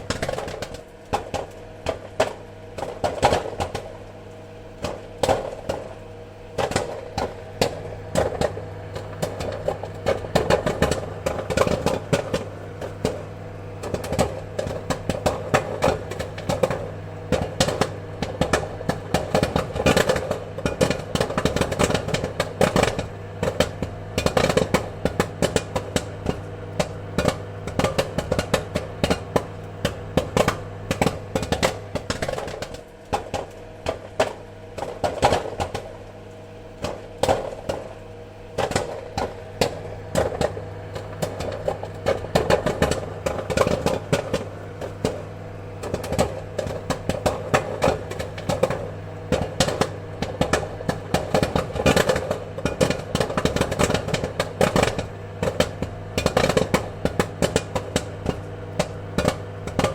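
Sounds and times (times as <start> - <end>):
low appliance hum: 0.0 - 59.9
popcorn popping: 0.0 - 59.9.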